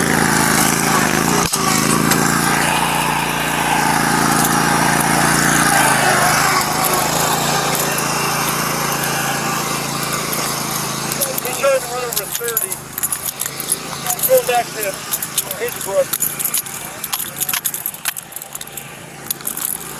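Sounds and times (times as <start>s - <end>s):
riding lawn mower engine: 0.0s - 19.9s.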